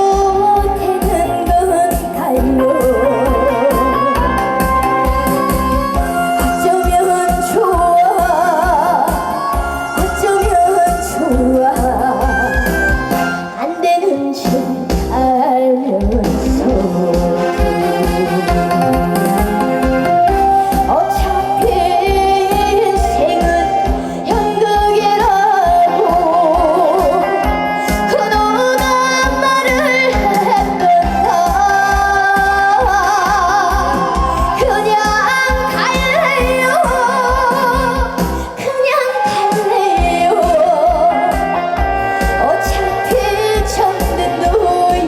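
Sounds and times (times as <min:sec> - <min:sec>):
woman singing with vibrato: 0:00.0 - 0:45.0.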